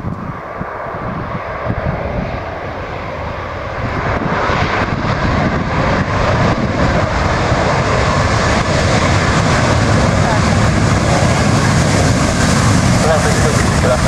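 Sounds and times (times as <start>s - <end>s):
jet engines roaring past: 0.0s - 14.0s.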